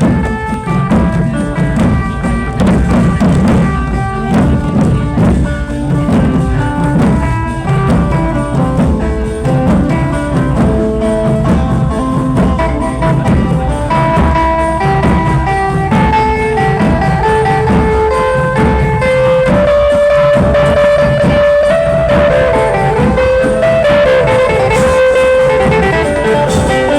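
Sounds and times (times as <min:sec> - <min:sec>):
steady drum beat: 0:00.0 - 0:26.9
sustained melodic instrument notes: 0:00.0 - 0:26.9.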